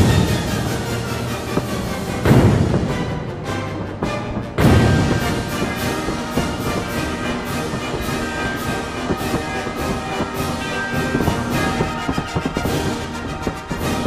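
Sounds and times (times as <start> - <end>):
fireworks banging and crackling: 0.0 - 14.0
orchestral music: 0.0 - 14.0.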